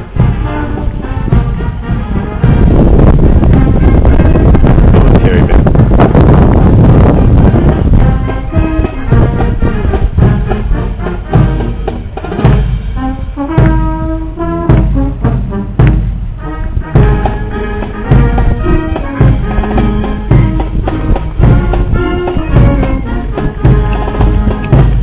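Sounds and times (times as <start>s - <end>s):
bass drum beat: 0.0s - 12.8s, 13.5s - 25.0s
marching band brass: 0.0s - 25.0s.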